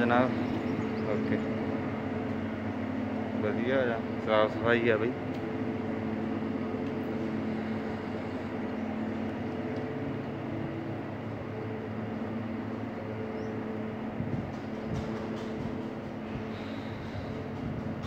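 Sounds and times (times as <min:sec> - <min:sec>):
constant tone: 0:00.0 - 0:18.0
diesel engine idling: 0:00.0 - 0:18.0.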